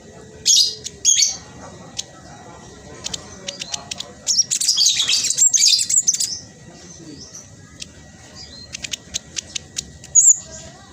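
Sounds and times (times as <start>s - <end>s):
bird singing high chattering notes: 0.2s - 10.9s.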